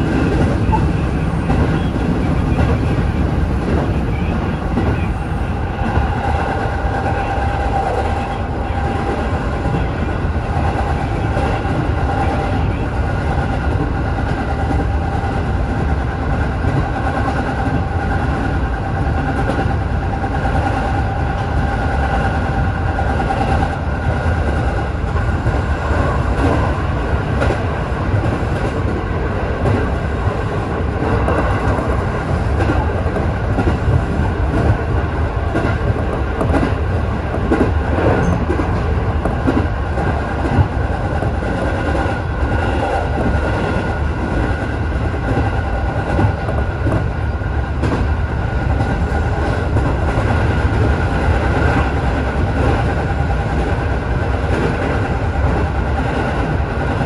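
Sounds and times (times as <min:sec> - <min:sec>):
train high whine: 0:00.0 - 0:57.0
train rolling rumble: 0:00.0 - 0:57.0.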